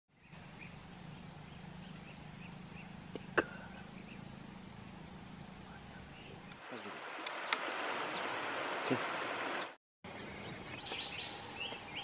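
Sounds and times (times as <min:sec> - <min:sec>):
insects trilling: 0:00.2 - 0:12.0.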